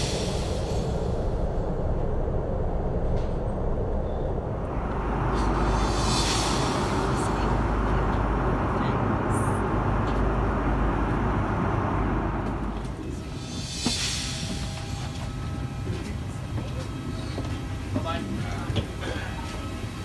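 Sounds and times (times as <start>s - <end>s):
airliner cabin engine roar: 0.0s - 20.0s.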